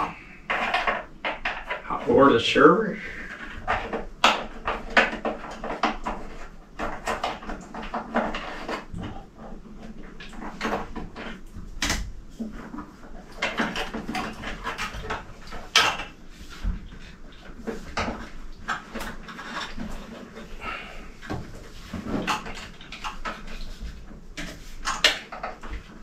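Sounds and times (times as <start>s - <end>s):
pipe fittings clicking and knocking: 0.0s - 2.2s, 3.3s - 26.0s.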